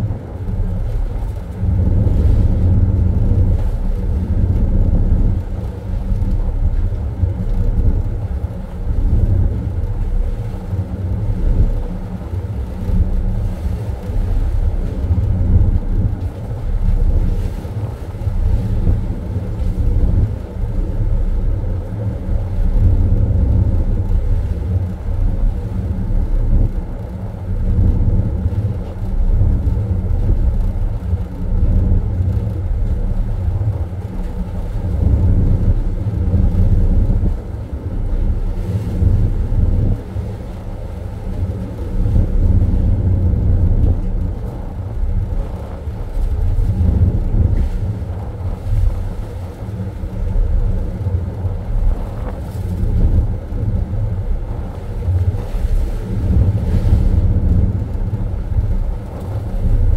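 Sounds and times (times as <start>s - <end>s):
ship machinery rumbling: 0.0s - 59.9s.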